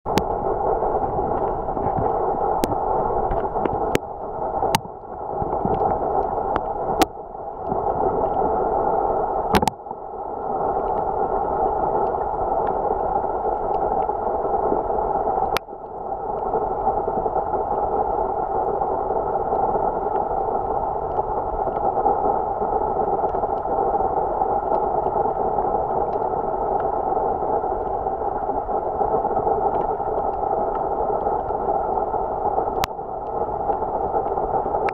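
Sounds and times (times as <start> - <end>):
muffled underwater rush: 0.0 - 34.9.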